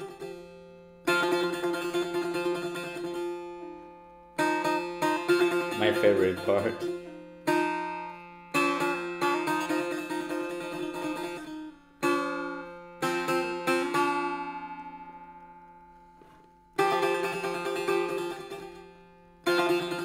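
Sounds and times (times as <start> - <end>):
setar plucked solo: 0.0 - 20.0.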